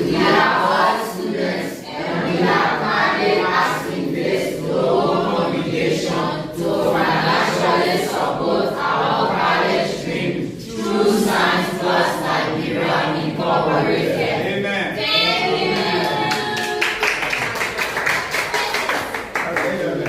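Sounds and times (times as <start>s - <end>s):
children's choir singing: 0.0s - 17.2s.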